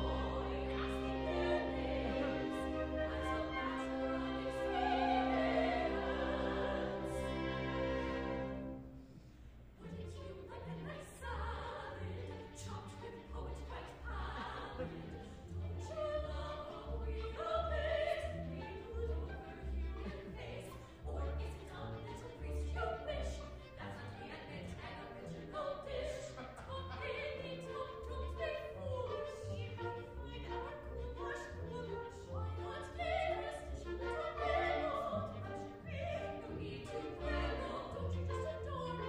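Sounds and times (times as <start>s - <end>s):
opera singers singing together: 0.0s - 8.8s, 9.8s - 39.0s.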